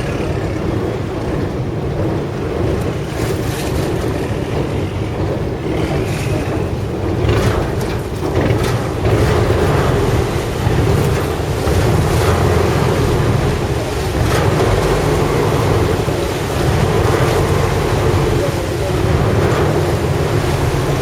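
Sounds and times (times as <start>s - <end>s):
boat engine droning: 0.0s - 21.0s
water rushing: 0.0s - 21.0s
wind buffeting microphone: 0.0s - 21.0s.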